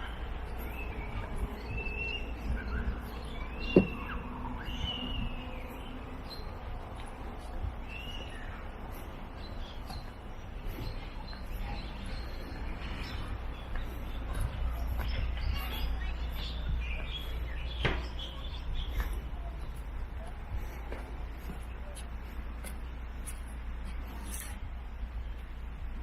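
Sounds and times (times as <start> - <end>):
small birds chirping: 0.0 - 24.6
steady low rumble: 0.0 - 26.0.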